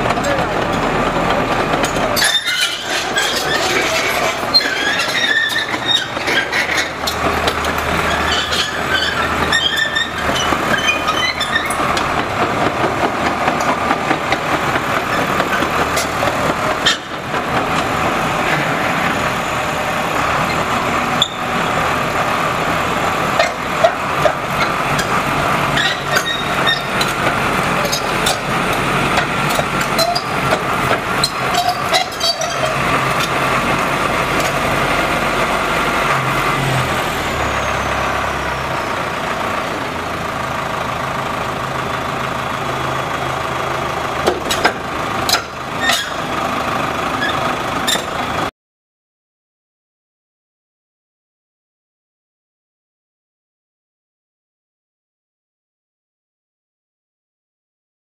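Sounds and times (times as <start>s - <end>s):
crawler dozer engine running: 0.0s - 48.5s
track clanks and squeaks: 0.0s - 48.5s.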